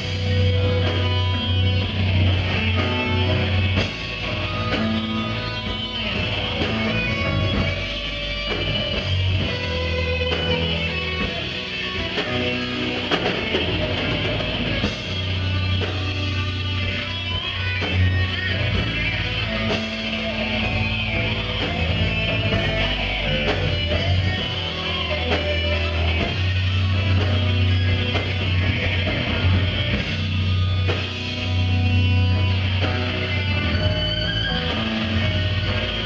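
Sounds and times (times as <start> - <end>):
bass guitar: 0.0 - 36.0
drum kit: 0.0 - 36.0
electric guitar: 0.0 - 36.0.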